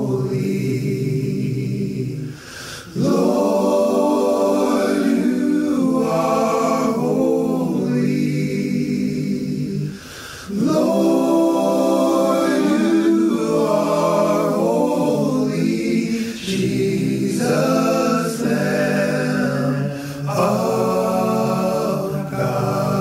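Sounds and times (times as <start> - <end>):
vocal group singing a cappella: 0.0 - 23.0.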